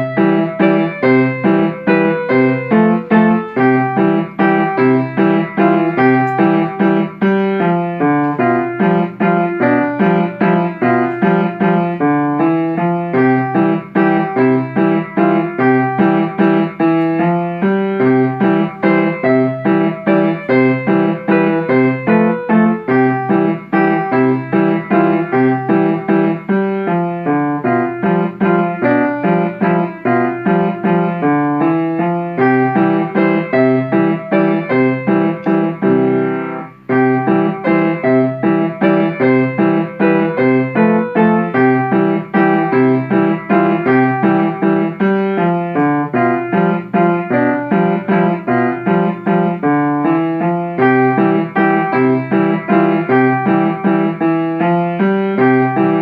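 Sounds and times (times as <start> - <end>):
piano piece: 0.0 - 56.0.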